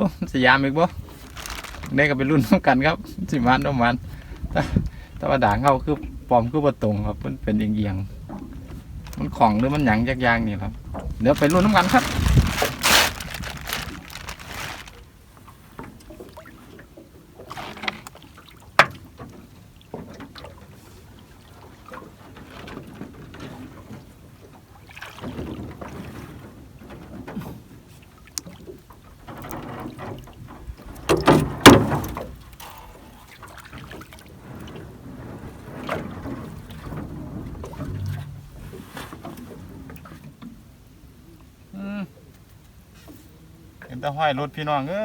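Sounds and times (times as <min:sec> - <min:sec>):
water sloshing and splashing: 0:00.4 - 0:41.0.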